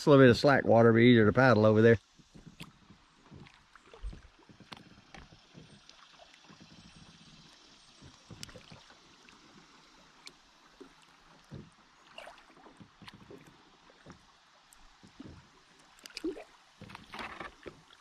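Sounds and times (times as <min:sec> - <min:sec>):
flowing water rushing: 0:00.0 - 0:18.0
paddle blades splashing: 0:01.5 - 0:18.0
water drips: 0:02.1 - 0:18.0.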